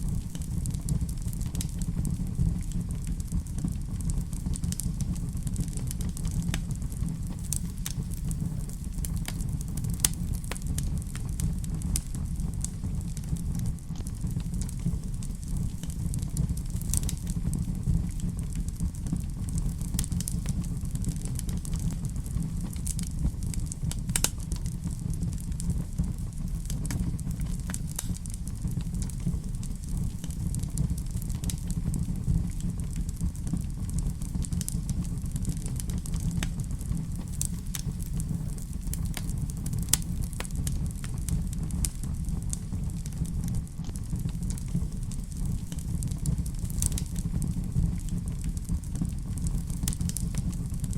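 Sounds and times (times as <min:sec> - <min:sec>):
fire crackling: 0:00.0 - 0:50.9
low rumble: 0:00.0 - 0:50.9.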